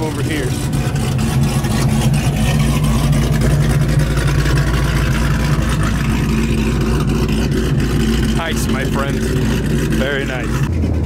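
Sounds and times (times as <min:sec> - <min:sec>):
car engine idling with uneven lope: 0:00.0 - 0:11.0.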